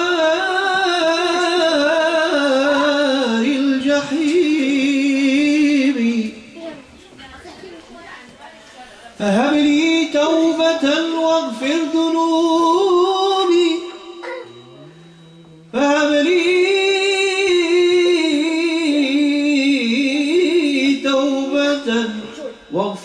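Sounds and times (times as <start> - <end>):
man singing unaccompanied: 0.0 - 6.6, 9.2 - 23.0.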